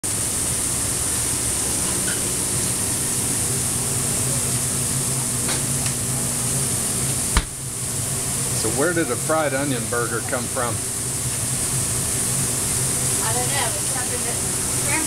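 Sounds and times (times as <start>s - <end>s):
kitchen equipment hum: 0.0s - 15.0s
patties sizzling on a griddle: 0.2s - 15.0s.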